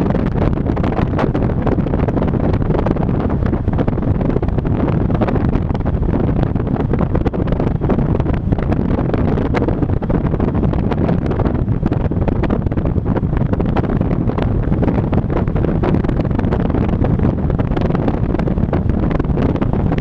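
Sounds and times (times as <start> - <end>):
car tyres and engine noise: 0.0 - 20.0
wind buffeting microphone: 0.0 - 20.0.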